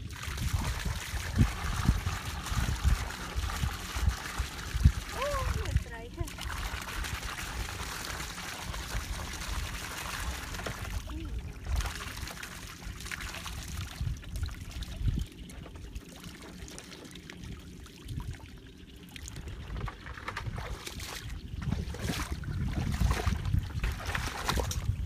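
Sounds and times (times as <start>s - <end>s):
water splashing and trickling: 0.0s - 25.0s.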